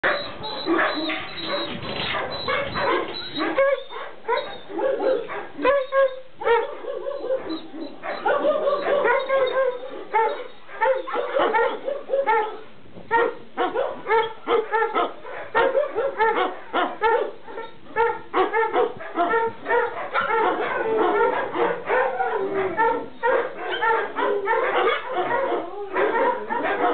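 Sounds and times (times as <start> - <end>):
dogs barking: 0.0 - 26.9.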